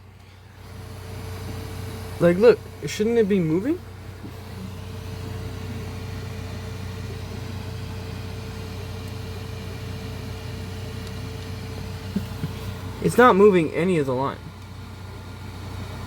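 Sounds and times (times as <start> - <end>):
thin constant whine: 0.0 - 16.0
three-d printer humming: 0.0 - 16.0.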